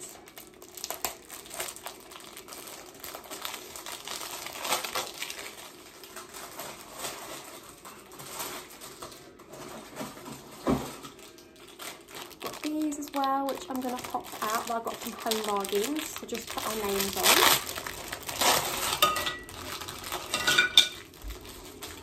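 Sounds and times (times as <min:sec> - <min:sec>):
paper napkin packet crinkling: 0:00.0 - 0:22.0.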